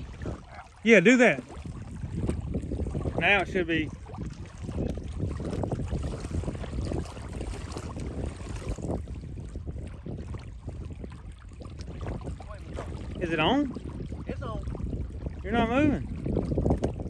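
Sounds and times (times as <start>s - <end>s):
water sloshing: 0.0s - 17.0s
wind noise on microphone: 0.0s - 17.0s.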